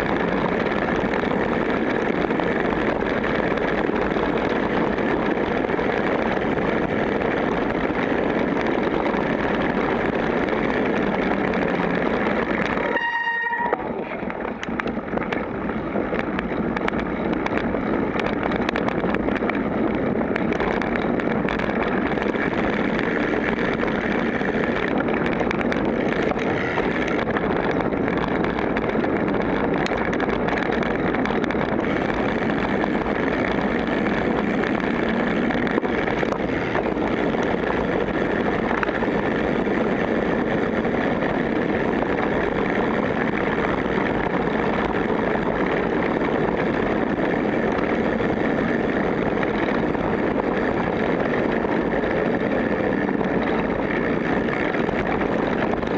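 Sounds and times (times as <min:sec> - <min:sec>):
bike rattling and clicking: 0:00.0 - 0:55.9
wind rushing on microphone: 0:00.0 - 0:55.9.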